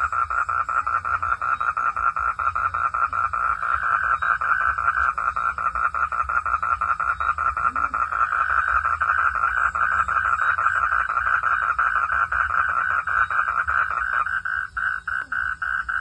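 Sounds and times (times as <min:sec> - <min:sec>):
frogs calling in chorus: 0:00.0 - 0:16.0.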